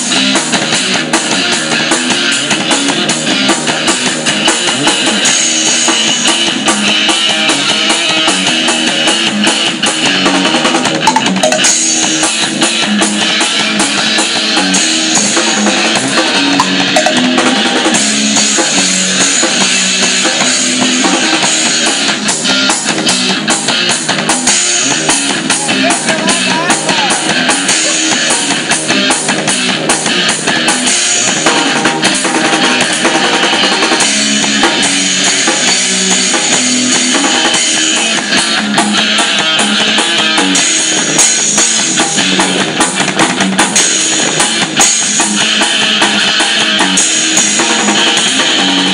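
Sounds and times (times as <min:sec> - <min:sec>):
rock music with drums and guitar: 0:00.0 - 0:48.9.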